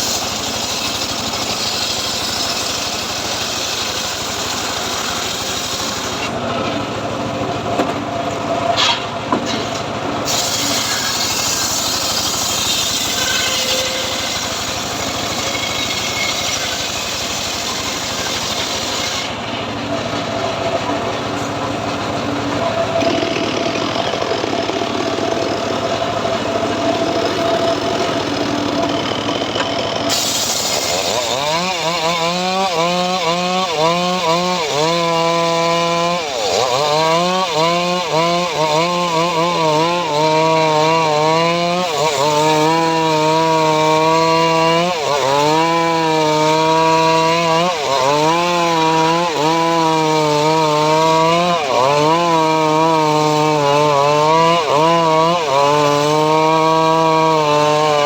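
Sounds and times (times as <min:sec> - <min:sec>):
saw whining through wood: 0:00.0 - 0:58.0
sawmill running noise: 0:00.0 - 0:58.0.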